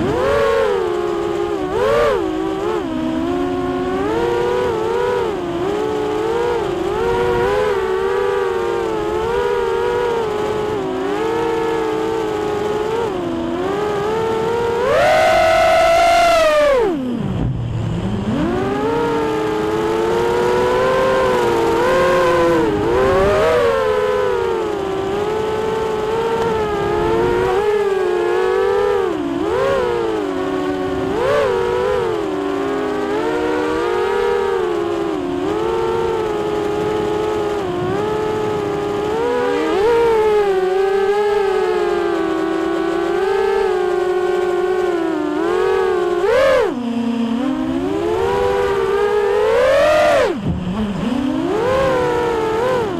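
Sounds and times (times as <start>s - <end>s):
quadcopter motors whining: 0.0s - 52.9s.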